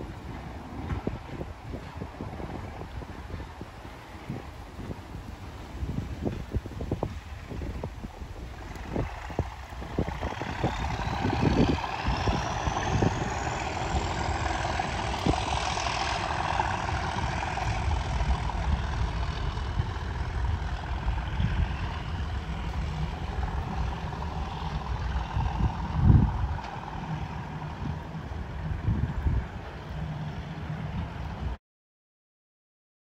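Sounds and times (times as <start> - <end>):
diesel locomotive engine rumble: 0.0 - 31.6
wind buffeting microphone: 0.0 - 31.6.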